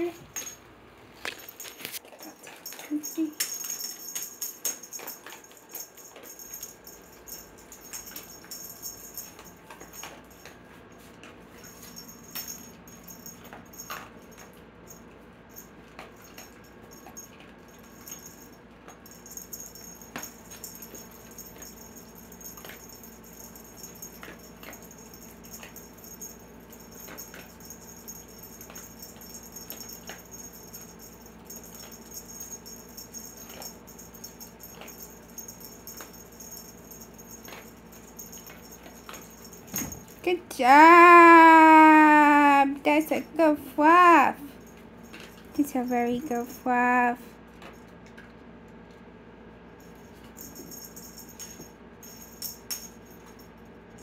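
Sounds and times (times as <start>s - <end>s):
faint background hum: 0.0s - 54.0s.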